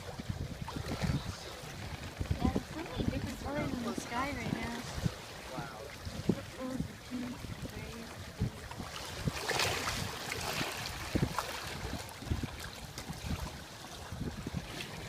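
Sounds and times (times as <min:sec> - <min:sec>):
water rushing along boat hull: 0:00.0 - 0:15.0
wind thumps on microphone: 0:00.0 - 0:15.0.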